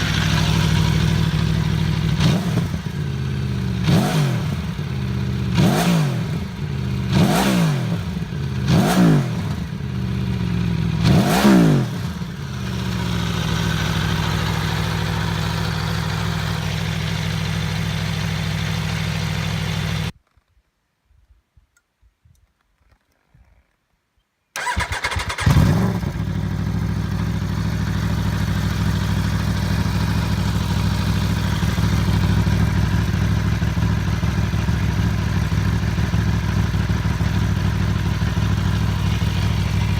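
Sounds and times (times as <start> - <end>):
motorcycle engine revving and idling: 0.0 - 20.2, 24.6 - 39.9.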